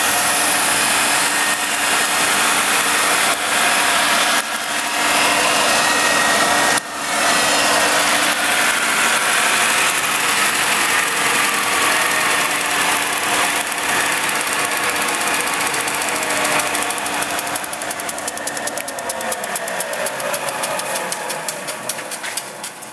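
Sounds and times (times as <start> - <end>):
belt grinder grinding: 0.0 - 22.9.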